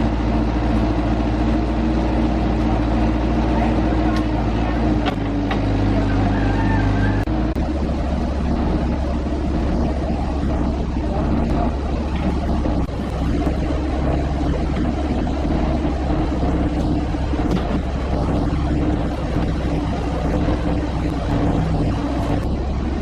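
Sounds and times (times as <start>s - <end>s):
motor engine running: 0.0s - 23.0s.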